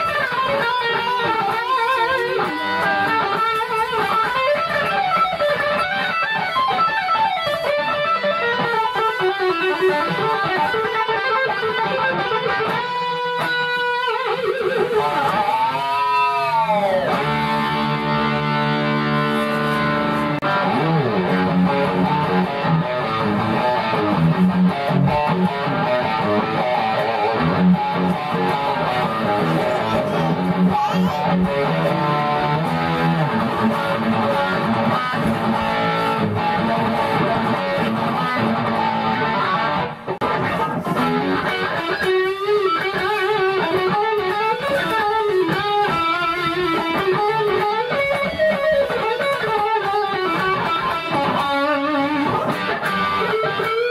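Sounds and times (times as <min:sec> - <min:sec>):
electric guitar lead with bent notes: 0:00.0 - 0:53.9
electric guitar riffing: 0:00.0 - 0:53.9.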